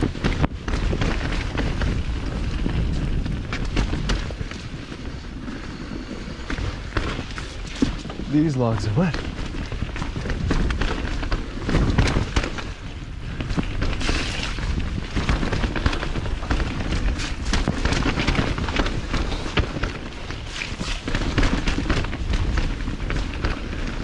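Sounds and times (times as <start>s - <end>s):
bike rattling and knocking: 0.0s - 24.0s
bike tyres rolling over dirt: 0.0s - 24.0s
wind rumble on microphone: 0.0s - 24.0s.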